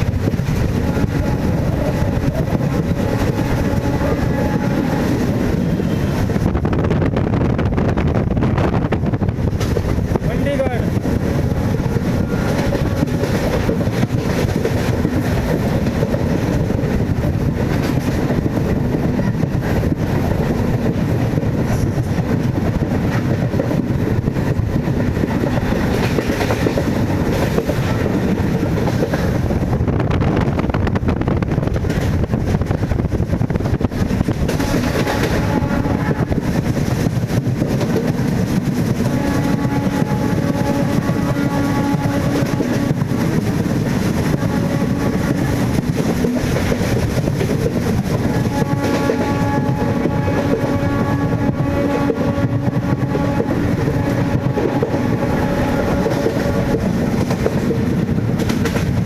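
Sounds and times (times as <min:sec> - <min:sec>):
rail clicks: 0:00.0 - 0:59.0
train rumbling along track: 0:00.0 - 0:59.0.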